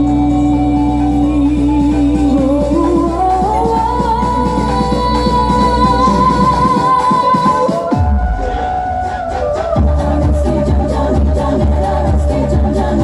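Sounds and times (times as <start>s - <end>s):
heavy bass: 0.0s - 7.0s, 7.8s - 13.0s
high sung melody: 0.0s - 13.0s
loud dance music: 2.3s - 13.0s.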